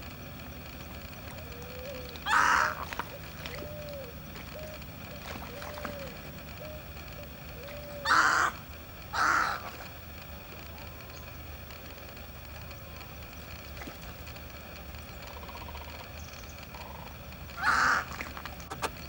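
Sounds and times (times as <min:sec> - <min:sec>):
harsh bird calls: 0:00.1 - 0:11.4, 0:15.0 - 0:19.0.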